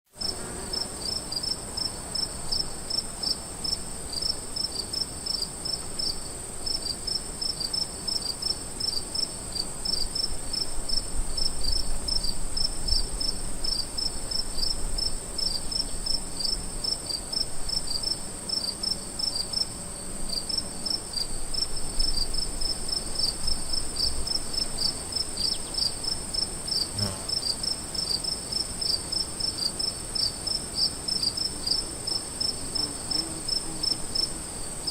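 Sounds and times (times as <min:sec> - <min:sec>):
crickets chirping: 0:00.2 - 0:34.9.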